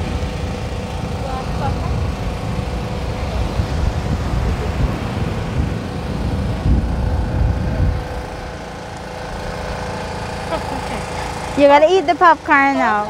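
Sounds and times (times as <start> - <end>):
wind buffeting microphone: 0.2 - 12.6.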